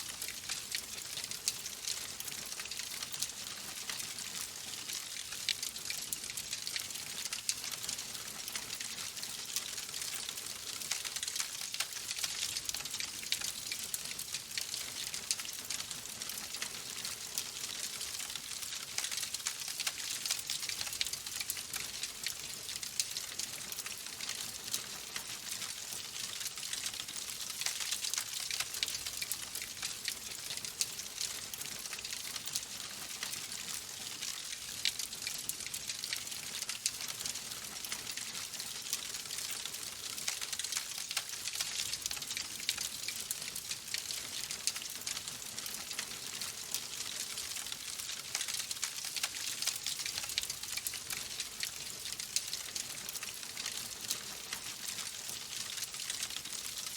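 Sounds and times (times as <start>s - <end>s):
wood fire crackling and popping: 0.1s - 56.7s.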